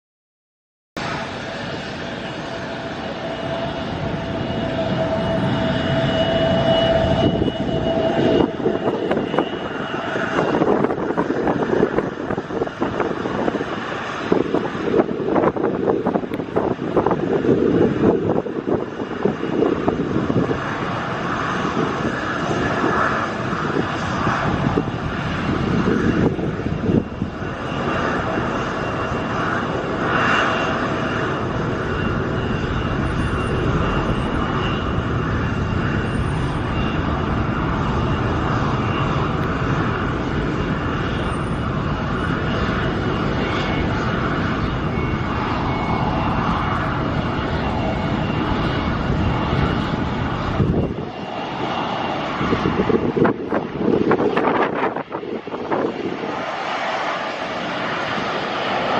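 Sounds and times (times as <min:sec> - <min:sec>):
airliner engines: 0:01.0 - 0:58.9
wind buffeting microphone: 0:01.0 - 0:58.9.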